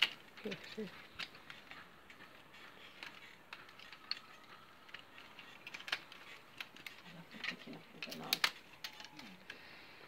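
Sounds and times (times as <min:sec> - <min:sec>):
cane stakes clicking and crackling: 0:00.0 - 0:09.8.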